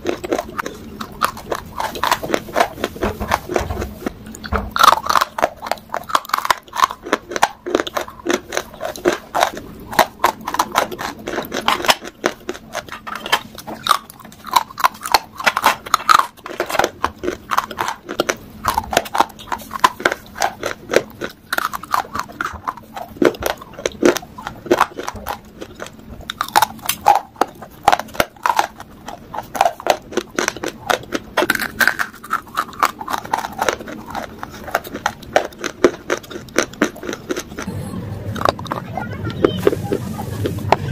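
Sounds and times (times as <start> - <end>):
person chewing crunchy clay: 0.0 - 40.9.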